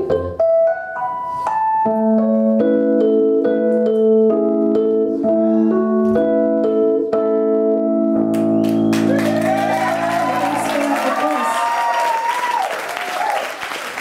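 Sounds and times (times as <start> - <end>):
keyboard playing run of notes: 0.0 - 12.6.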